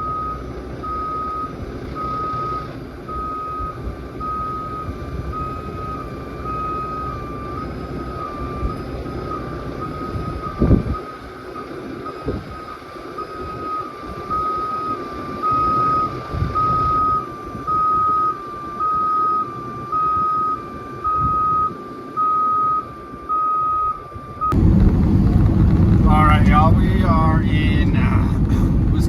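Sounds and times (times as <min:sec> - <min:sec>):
electronic warning beeper: 0:00.0 - 0:24.6
low vehicle rumble: 0:00.0 - 0:29.0.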